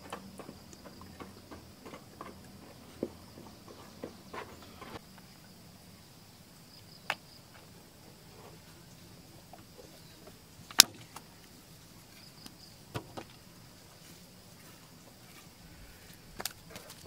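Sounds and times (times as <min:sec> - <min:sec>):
faint insect drone: 0:00.0 - 0:17.0.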